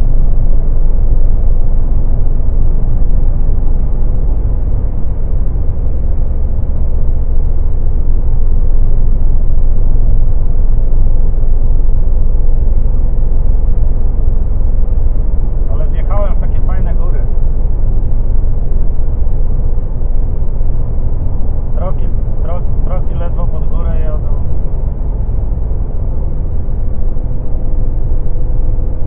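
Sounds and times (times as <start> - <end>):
car road noise rumble: 0.0 - 29.0
faint steady hum: 0.0 - 29.0.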